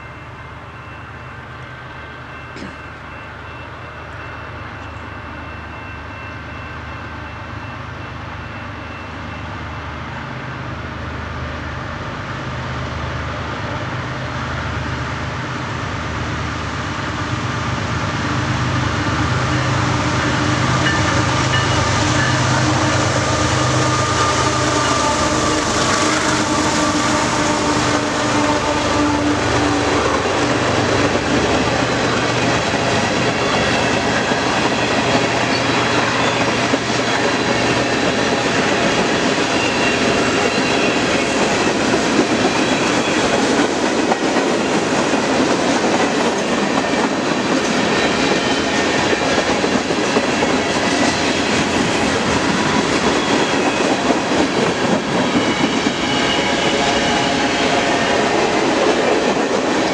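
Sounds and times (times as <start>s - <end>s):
diesel locomotive engine: 0.0s - 59.9s
train rolling past: 0.0s - 59.9s.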